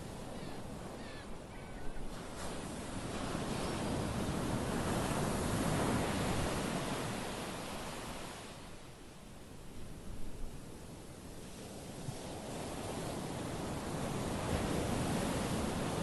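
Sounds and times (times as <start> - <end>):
small waves breaking on beach: 0.0 - 16.0.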